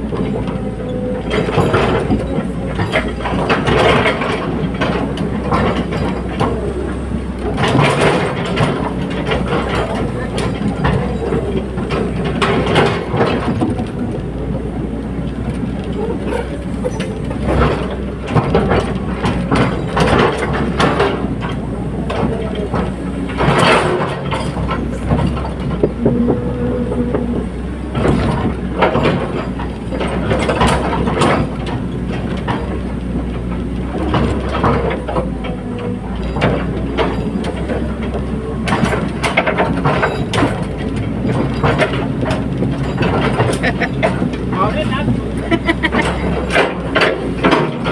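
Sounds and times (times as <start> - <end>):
excavator diesel engine running: 0.0 - 47.9
metallic clanks and knocks: 0.0 - 47.9.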